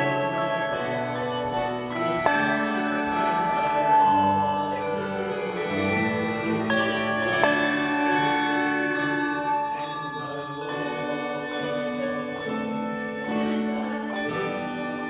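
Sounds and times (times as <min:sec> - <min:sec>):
handbell choir playing: 0:00.0 - 0:15.0.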